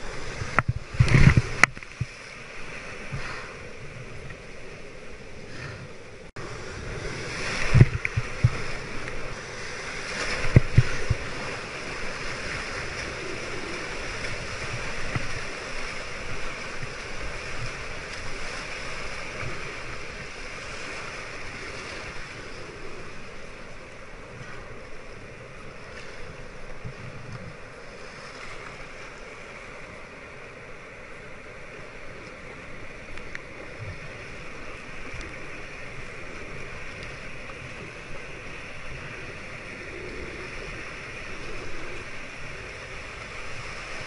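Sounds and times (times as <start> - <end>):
surf whitewater rushing: 0.0 - 44.0.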